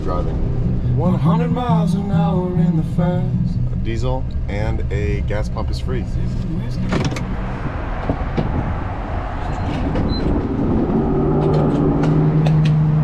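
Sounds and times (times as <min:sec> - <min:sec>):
low engine hum: 0:00.0 - 0:13.0
traffic rumbling: 0:00.0 - 0:13.0.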